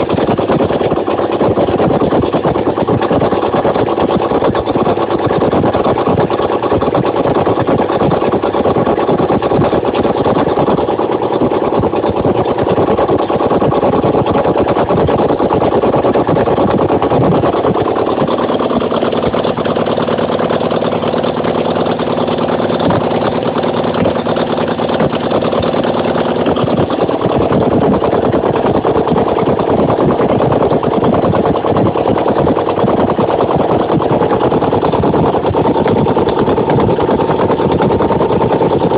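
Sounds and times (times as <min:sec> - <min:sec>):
motorcycle engine running unevenly: 0:00.0 - 0:38.9.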